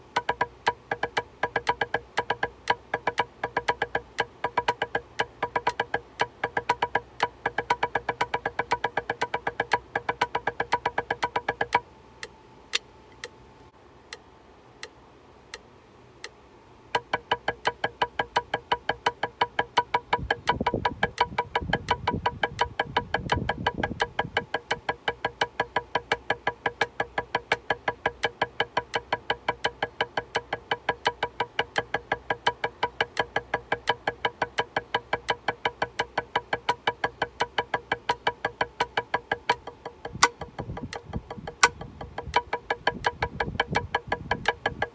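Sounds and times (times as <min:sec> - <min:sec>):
electronic metronome clicking: 0:00.0 - 0:13.4, 0:16.2 - 0:44.9
drumstick taps on practice pad: 0:00.1 - 0:11.8, 0:17.0 - 0:44.9.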